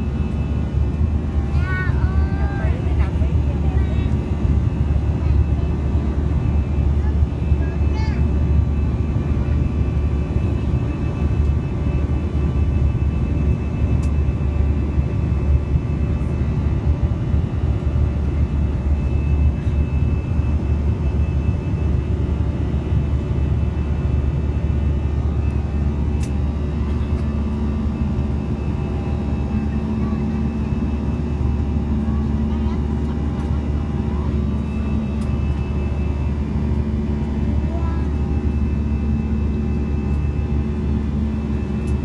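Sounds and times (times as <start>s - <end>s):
jet engines droning in cabin: 0.0s - 42.0s.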